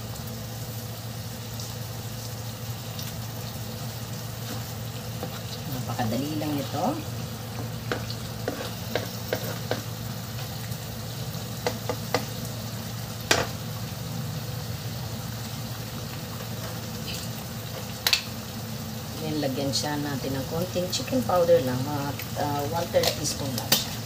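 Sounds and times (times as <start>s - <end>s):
sauce bubbling and sizzling: 0.0s - 24.0s.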